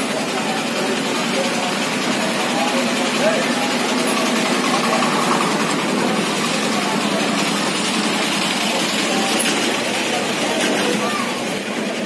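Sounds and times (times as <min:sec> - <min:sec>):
engines and traffic humming: 0:00.0 - 0:12.0
faint indistinct voices: 0:00.0 - 0:12.0.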